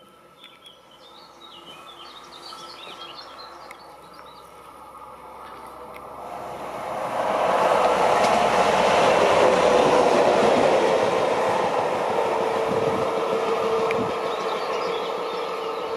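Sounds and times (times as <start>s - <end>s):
diesel train passing: 1.4s - 15.9s.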